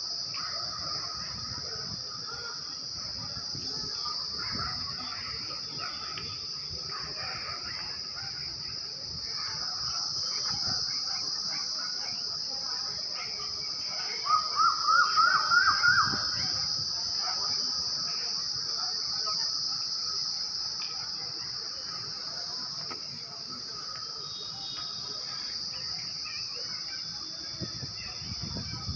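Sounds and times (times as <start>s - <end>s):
insects droning: 0.0s - 28.9s.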